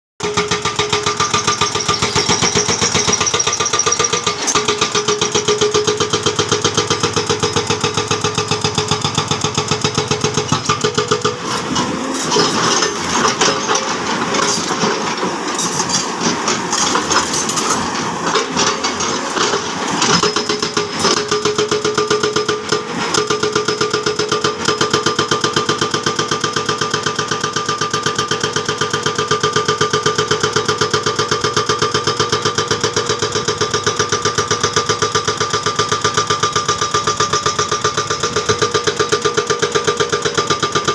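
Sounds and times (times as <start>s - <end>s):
excavator diesel engine: 0.2s - 40.9s
hydraulic breaker hammering: 0.2s - 40.9s.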